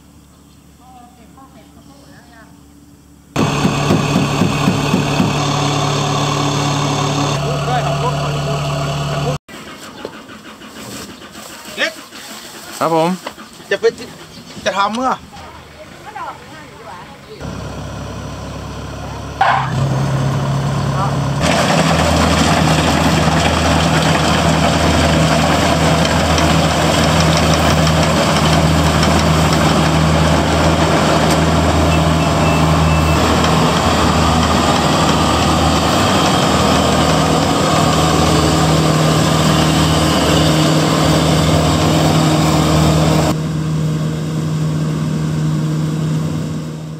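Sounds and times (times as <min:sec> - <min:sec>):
diesel engine drone: 0:00.0 - 0:11.5, 0:13.7 - 0:46.9
threshing machinery noise: 0:03.3 - 0:46.9.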